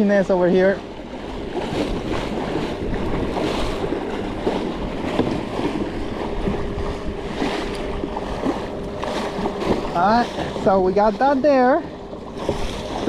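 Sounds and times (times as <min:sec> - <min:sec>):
water rushing along a hull: 0:00.0 - 0:13.0
wind buffeting microphone: 0:00.0 - 0:13.0.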